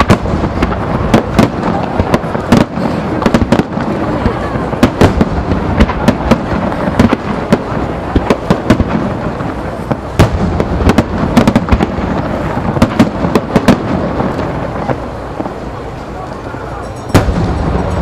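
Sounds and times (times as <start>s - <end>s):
rumble of firework launches: 0.0s - 15.9s, 17.2s - 18.0s
fireworks bursting: 0.0s - 18.0s.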